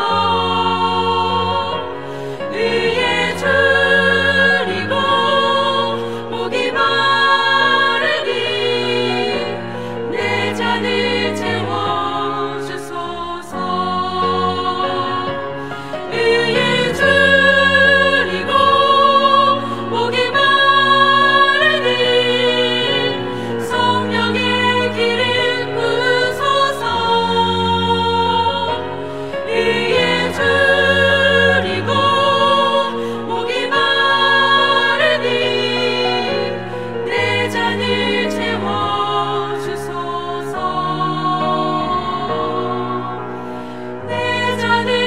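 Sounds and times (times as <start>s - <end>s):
cello sustained low notes: 0.0s - 39.4s
women's choir singing a hymn: 0.0s - 45.0s.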